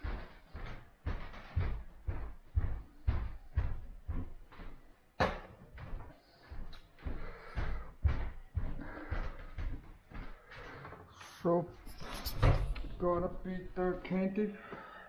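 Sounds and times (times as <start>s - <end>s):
footsteps on wooden floor: 0.0s - 15.0s.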